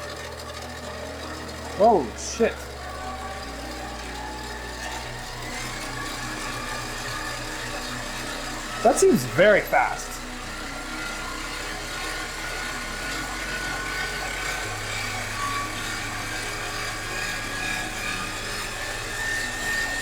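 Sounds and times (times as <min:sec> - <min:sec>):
lathe motor whining: 0:00.0 - 0:20.0.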